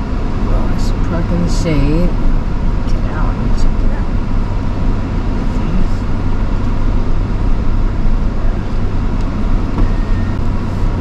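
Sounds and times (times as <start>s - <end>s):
vehicle engine rumble inside cabin: 0.0s - 11.0s.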